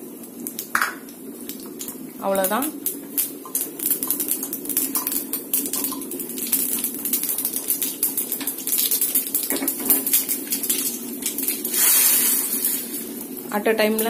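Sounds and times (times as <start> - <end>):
low steady hum: 0.0 - 14.0
seeds spluttering in hot oil: 0.0 - 14.0.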